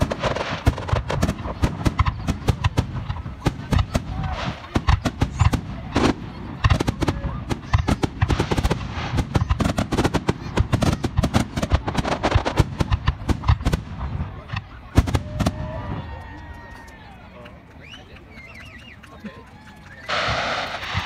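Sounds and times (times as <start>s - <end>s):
loud fireworks booms: 0.0s - 16.2s, 20.1s - 21.0s
fireworks bangs and crackles: 0.0s - 17.0s, 19.9s - 21.0s.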